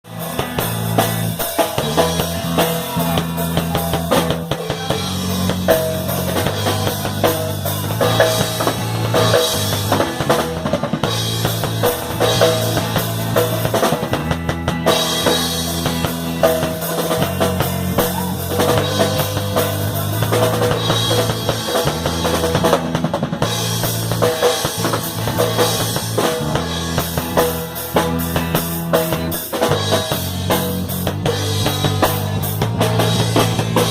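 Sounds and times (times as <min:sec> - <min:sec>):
held bass notes: 0:00.0 - 0:33.9
live band playing: 0:00.0 - 0:33.9
drum kit kick and snare: 0:00.1 - 0:33.9.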